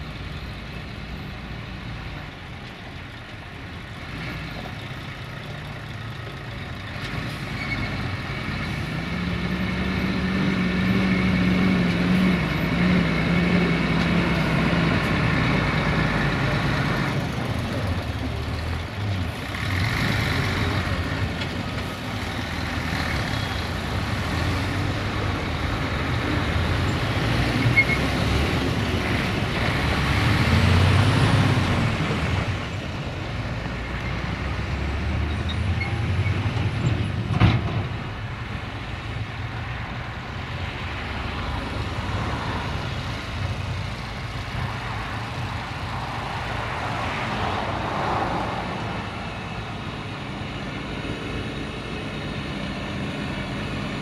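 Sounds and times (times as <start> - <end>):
dump trucks driving past: 0.0 - 54.0.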